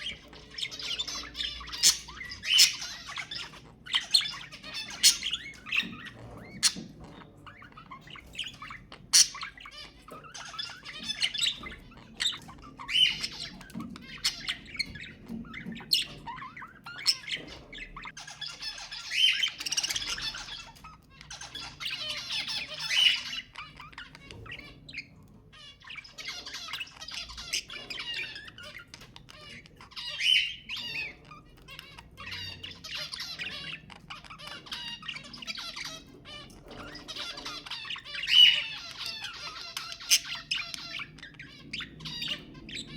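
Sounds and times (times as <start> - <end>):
bird chirps and squawks: 0.0 - 42.9
budgerigars chattering and warbling: 0.0 - 42.9.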